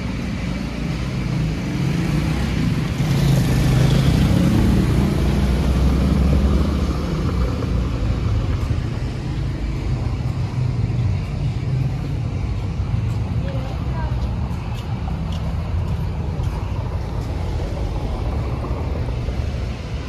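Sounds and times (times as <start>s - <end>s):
street traffic: 0.0s - 20.0s
vehicle engine running: 0.0s - 20.0s.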